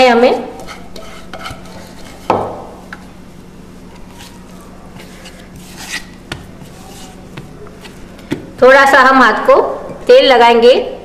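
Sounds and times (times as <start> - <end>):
dough squishing and slapping: 1.2 - 10.1.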